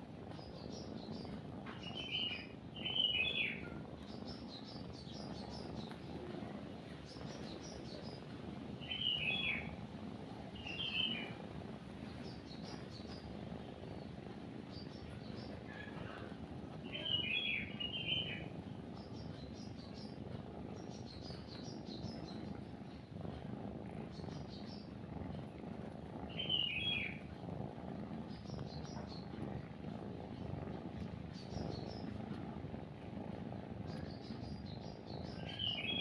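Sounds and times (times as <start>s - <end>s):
cat purring: 0.0s - 36.0s
birds chirping: 0.3s - 9.8s, 10.4s - 23.1s, 23.8s - 25.6s, 26.3s - 27.3s, 28.2s - 32.5s, 33.8s - 36.0s.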